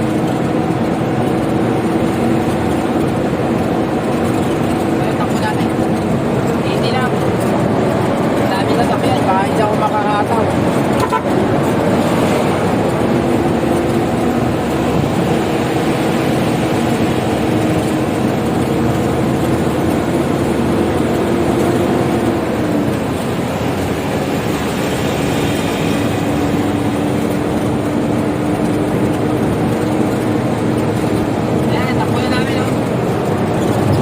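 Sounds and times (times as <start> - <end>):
diesel truck engine: 0.0 - 34.0
tyre and road noise: 0.0 - 34.0.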